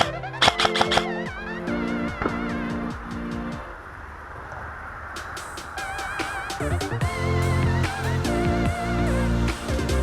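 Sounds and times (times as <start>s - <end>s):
electronic music with steady beat: 0.0s - 3.8s, 5.2s - 10.0s.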